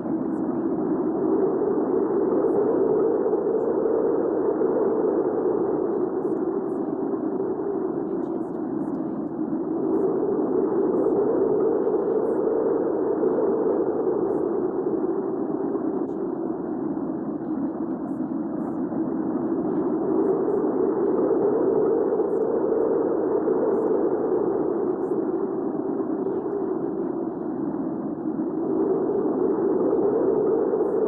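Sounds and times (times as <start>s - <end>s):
rush of strong wind: 0.0s - 31.0s.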